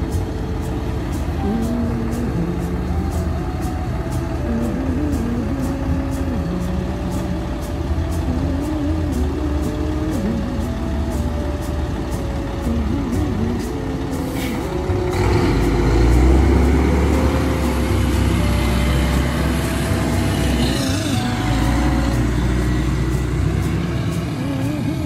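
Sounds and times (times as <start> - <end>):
truck diesel engine passing: 0.0 - 25.0.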